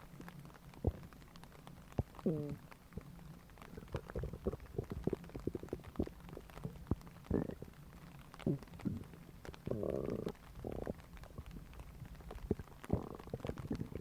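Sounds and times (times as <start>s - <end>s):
stomach growling and gurgling: 0.0s - 14.0s.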